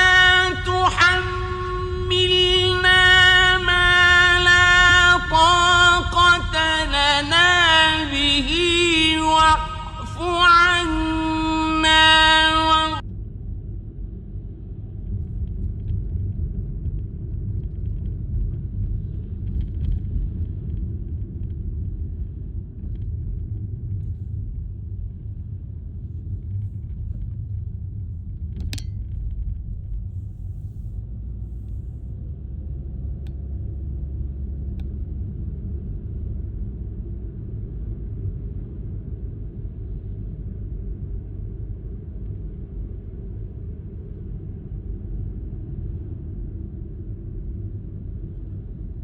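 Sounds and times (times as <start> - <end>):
low outdoor rumble: 0.0 - 49.0.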